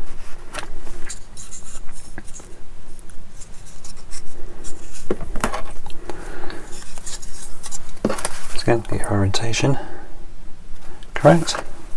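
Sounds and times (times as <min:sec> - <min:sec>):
plastic parts scratching and rubbing: 0:00.0 - 0:09.2, 0:11.2 - 0:11.8.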